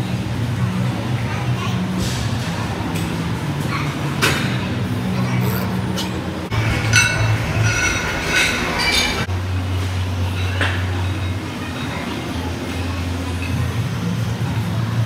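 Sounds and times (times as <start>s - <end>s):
gym background hum: 0.1s - 15.0s.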